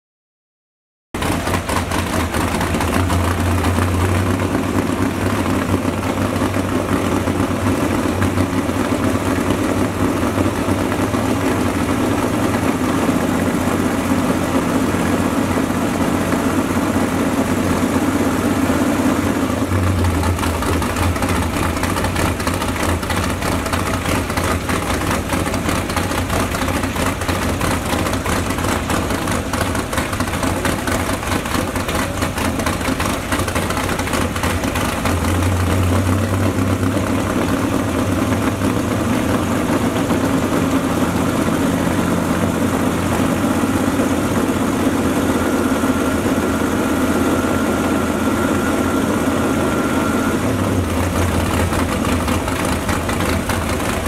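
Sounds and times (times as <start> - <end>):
engine running through open headers: 1.2 - 54.0.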